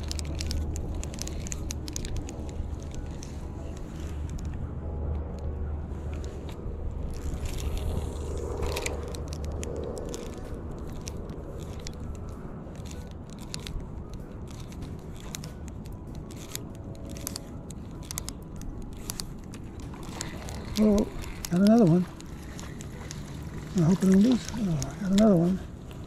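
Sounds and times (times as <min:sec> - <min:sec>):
fishing reel clicking: 0:00.0 - 0:04.6, 0:07.0 - 0:26.0.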